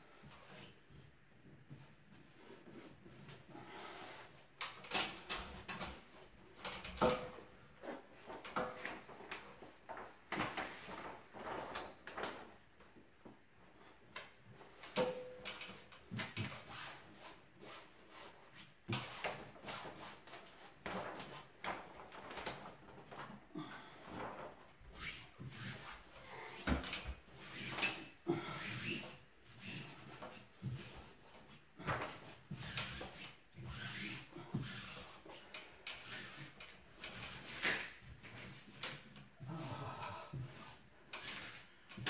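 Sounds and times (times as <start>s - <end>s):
wallpaper rustling and crackling: 0.0s - 42.0s.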